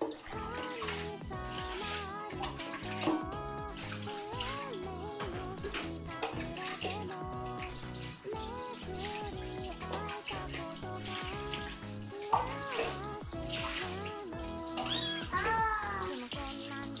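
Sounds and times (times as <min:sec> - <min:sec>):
background music: 0:00.0 - 0:17.0
running water hiss: 0:00.0 - 0:17.0.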